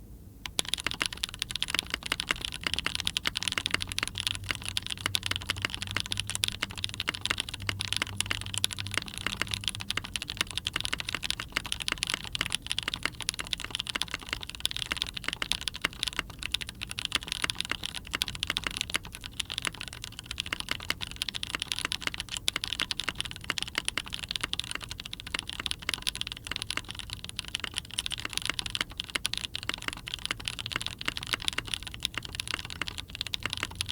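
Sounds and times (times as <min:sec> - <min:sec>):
fast typing on mechanical keyboard: 0:00.5 - 0:33.9.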